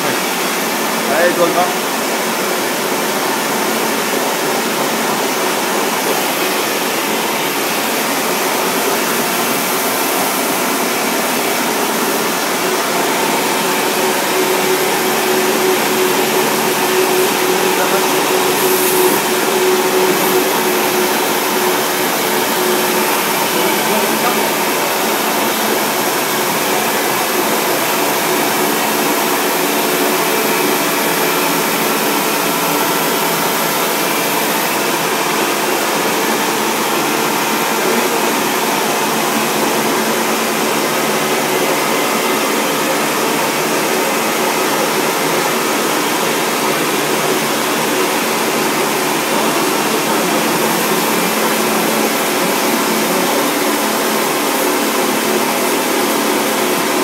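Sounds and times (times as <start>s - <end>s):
foam-cutting machine whirring: 0.0s - 57.0s.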